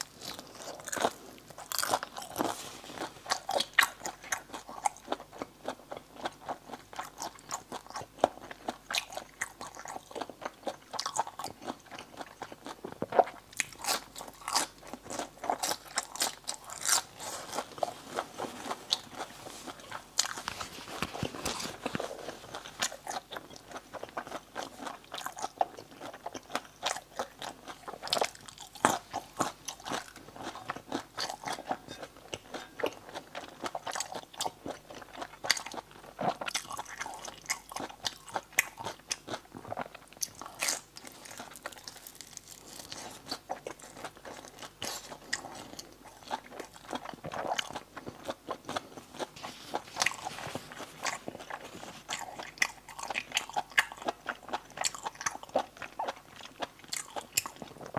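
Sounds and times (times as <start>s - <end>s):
person chewing meat: 0.0s - 57.9s.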